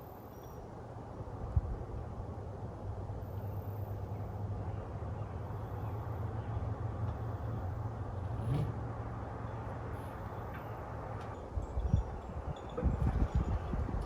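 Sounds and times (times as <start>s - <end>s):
engine running at low speed: 0.0s - 11.4s.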